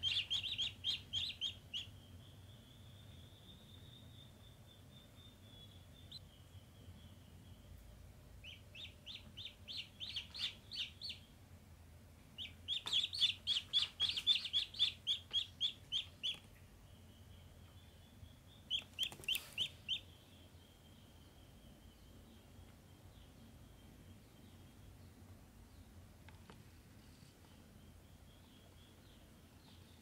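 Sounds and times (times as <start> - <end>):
ducklings peeping: 0.0 - 26.6.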